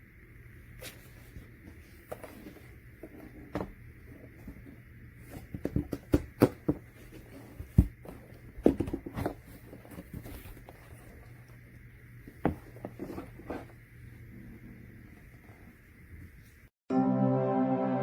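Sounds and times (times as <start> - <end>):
faint steady hum: 0.0 - 16.7.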